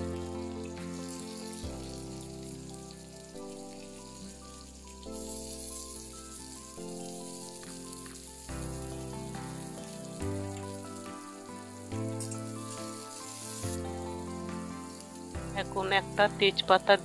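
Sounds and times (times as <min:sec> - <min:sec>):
background music with held chords: 0:00.0 - 0:17.0
onions sizzling in hot oil: 0:00.0 - 0:17.0.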